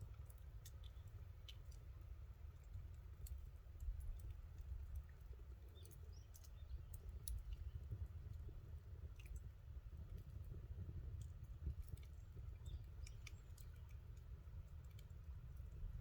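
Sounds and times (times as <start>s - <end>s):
campfire crackling: 0.0s - 16.0s
low steady rumble: 0.0s - 16.0s.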